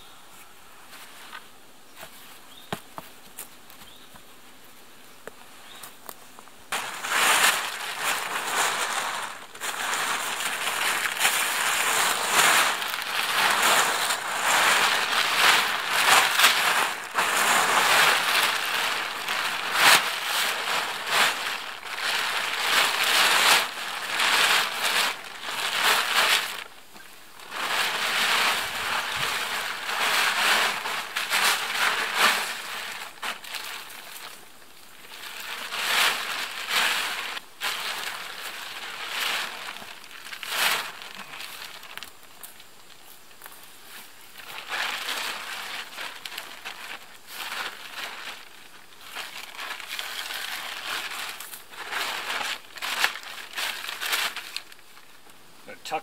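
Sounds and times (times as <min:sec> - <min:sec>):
plastic tarp crinkling: 0:06.7 - 0:55.2.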